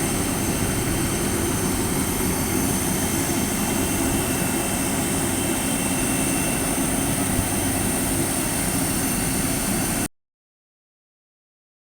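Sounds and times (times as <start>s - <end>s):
airliner engines running: 0.0s - 10.1s.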